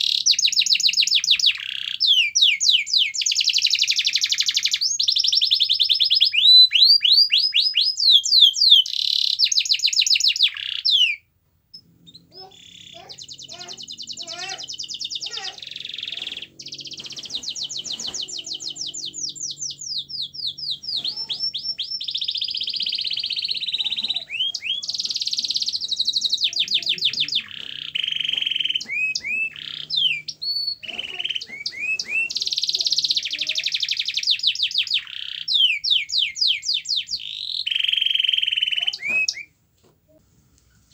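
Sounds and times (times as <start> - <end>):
canary singing trills: 0.0 - 39.6.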